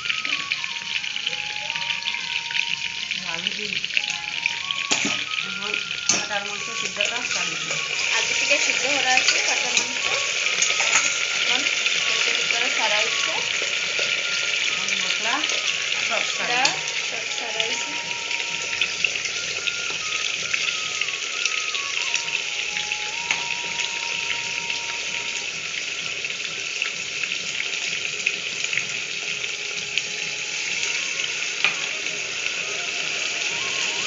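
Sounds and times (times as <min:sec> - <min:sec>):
meat frying in hot oil: 0:00.0 - 0:34.0.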